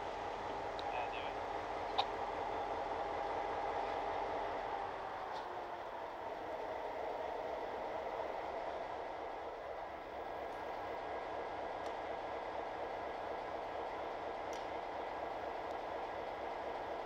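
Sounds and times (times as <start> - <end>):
freight train running: 0.0 - 17.0.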